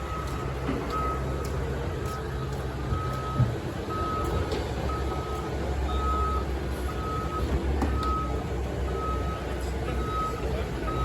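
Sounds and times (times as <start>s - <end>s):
diesel engines rumbling: 0.0s - 11.0s
reversing alarm beeping: 0.0s - 11.0s.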